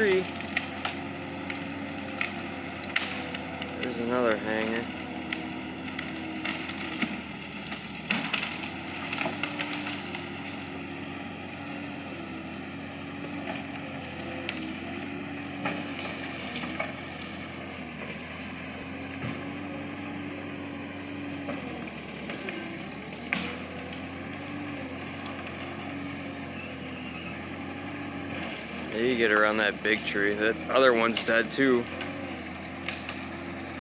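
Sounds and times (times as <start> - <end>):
skid steer engine running: 0.0 - 33.8
wood cracking and snapping: 0.0 - 33.8.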